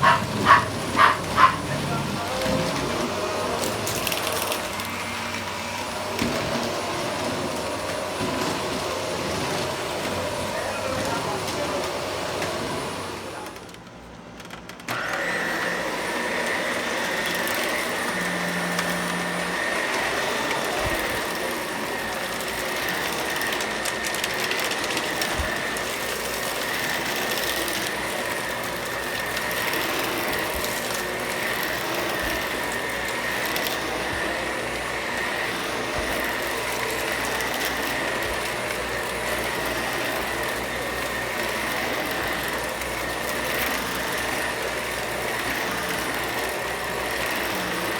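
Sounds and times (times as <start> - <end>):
vacuum cleaner whining: 0.0 - 47.9.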